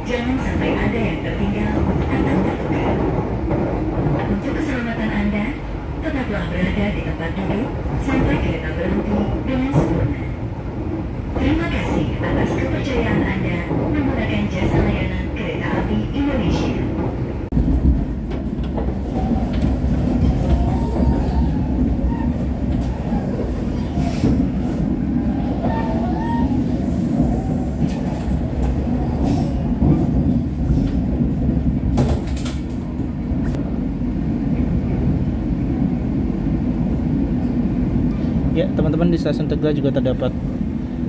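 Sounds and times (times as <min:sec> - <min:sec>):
train wheels rumbling: 0:00.0 - 0:41.0.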